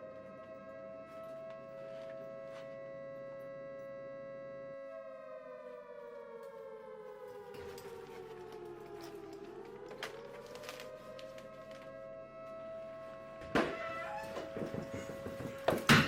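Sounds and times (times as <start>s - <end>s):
air-raid siren winding down: 0.0s - 15.9s.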